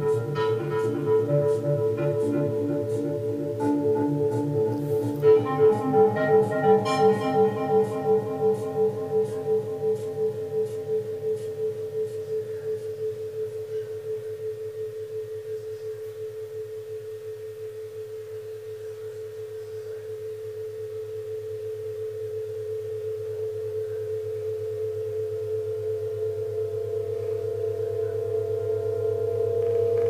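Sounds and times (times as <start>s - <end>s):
low pulsing hum: 0.0s - 30.0s
synthesizer steady tone: 0.0s - 30.0s.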